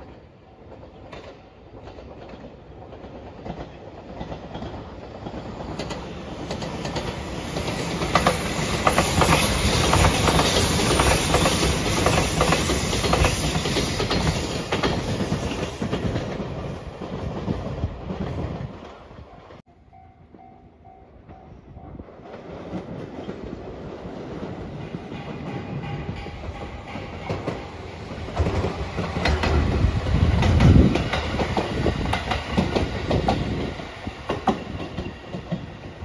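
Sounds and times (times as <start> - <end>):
wheels clicking over rail joints: 0.0 - 19.6, 22.2 - 35.8
electric train passing: 0.0 - 36.0.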